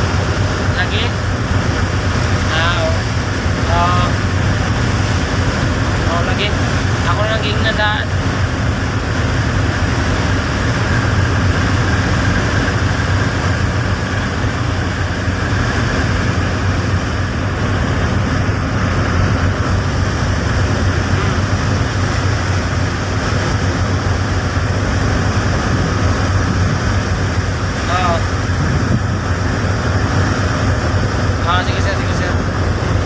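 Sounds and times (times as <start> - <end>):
constant wash of noise: 0.0 - 33.0
engine humming: 0.0 - 33.0.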